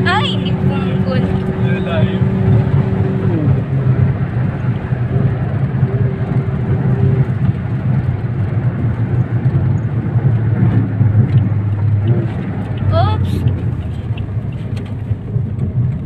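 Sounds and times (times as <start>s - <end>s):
car engine drone: 0.0s - 16.0s.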